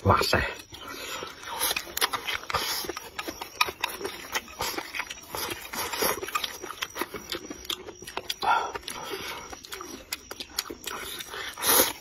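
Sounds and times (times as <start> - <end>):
chewing: 0.5 - 12.0.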